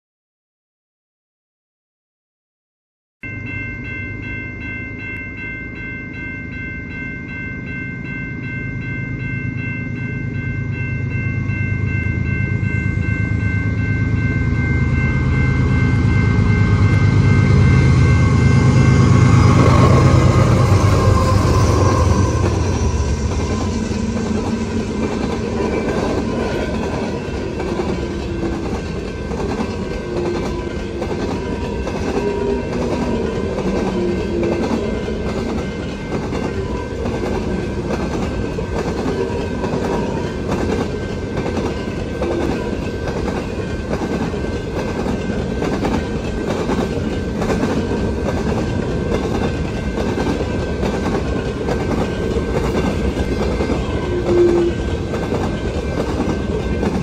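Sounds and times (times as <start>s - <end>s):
level-crossing warning bell: 3.2s - 57.0s
diesel locomotives rumbling: 8.0s - 57.0s.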